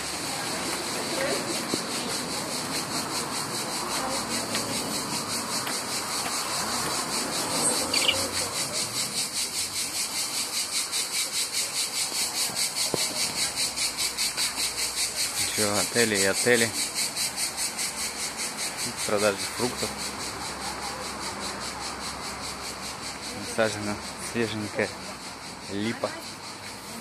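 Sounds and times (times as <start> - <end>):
cicadas chirring: 0.0 - 27.0
low street noise: 0.0 - 27.0.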